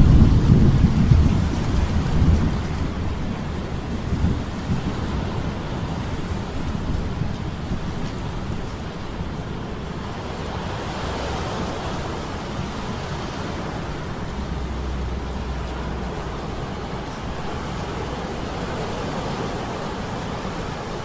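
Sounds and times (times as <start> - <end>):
stormy wind: 0.0 - 21.0
waves rushing: 0.0 - 21.0.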